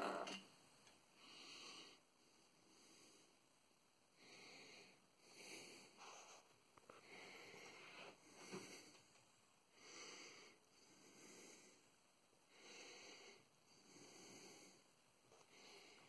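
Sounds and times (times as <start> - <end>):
soft slow breathing: 0.9 - 16.0.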